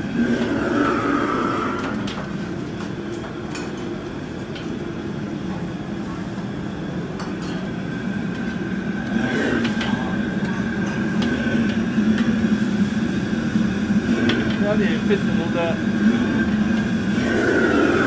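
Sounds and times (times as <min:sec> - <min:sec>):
gas wok burner roaring: 0:00.0 - 0:18.0.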